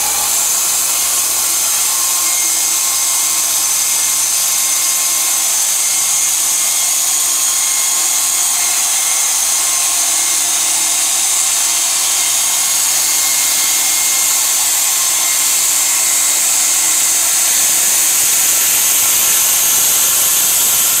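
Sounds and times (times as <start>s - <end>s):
band saw cutting through log: 0.0s - 21.0s.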